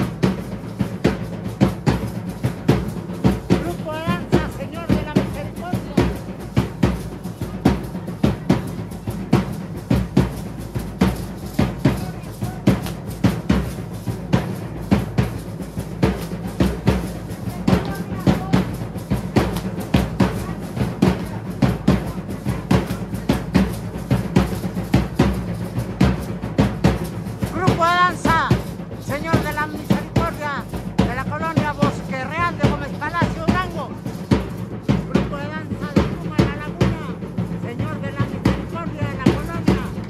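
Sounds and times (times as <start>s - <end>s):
drums beating a driving rhythm: 0.0s - 40.0s
hand rattles shaking: 0.0s - 40.0s.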